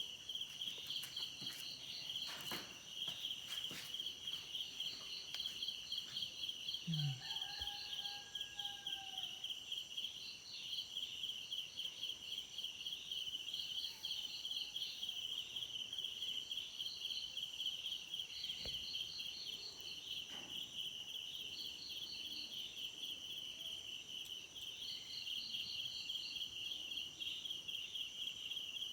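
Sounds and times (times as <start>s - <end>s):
crickets chirping: 0.0s - 28.9s.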